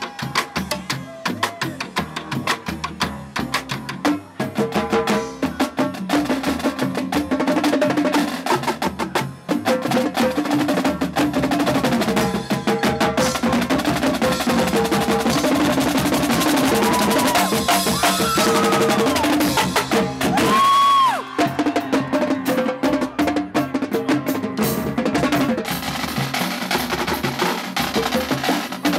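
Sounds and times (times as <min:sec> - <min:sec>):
tenor drums: 0:00.0 - 0:28.9.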